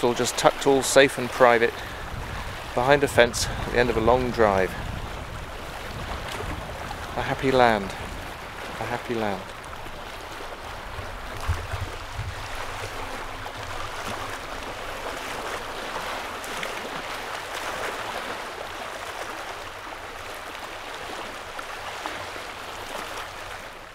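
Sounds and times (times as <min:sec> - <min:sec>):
small waves lapping on stones: 0:00.0 - 0:23.9.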